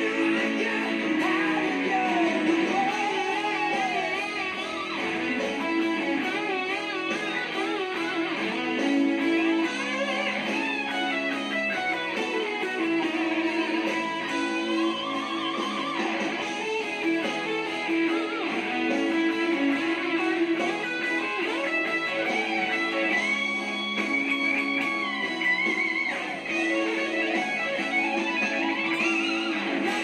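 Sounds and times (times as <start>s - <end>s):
electric guitar lead solo: 0.0s - 30.0s.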